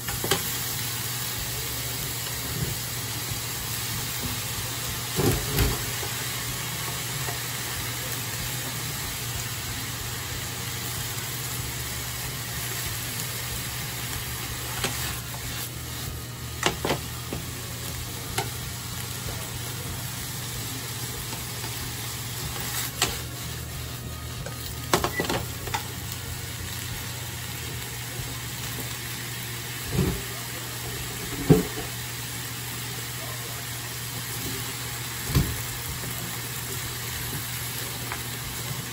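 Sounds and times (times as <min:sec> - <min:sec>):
meat and onion sizzling: 0:00.0 - 0:38.9.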